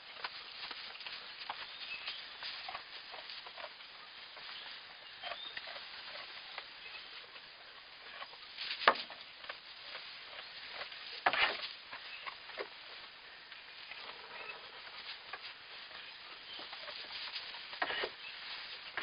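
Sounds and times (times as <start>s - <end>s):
hoof patter: 0.0s - 19.0s
rustling in straw: 0.0s - 19.0s.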